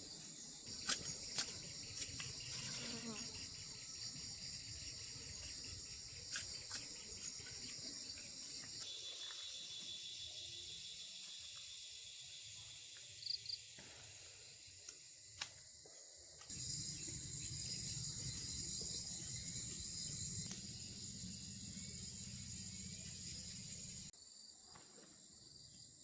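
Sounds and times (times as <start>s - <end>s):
insects chirring drone: 0.0s - 26.0s.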